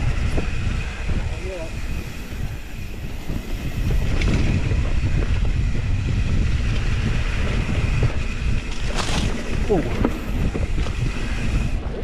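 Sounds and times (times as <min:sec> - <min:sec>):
bike clicks and rattles: 0:00.0 - 0:12.0
bike tyres rumbling on dirt: 0:00.0 - 0:12.0
wind buffeting microphone: 0:00.0 - 0:12.0.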